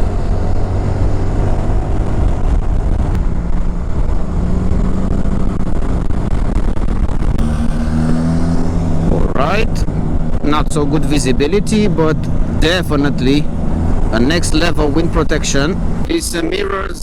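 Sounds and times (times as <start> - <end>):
road noise: 0.0 - 17.0
rushing wind: 0.0 - 17.0.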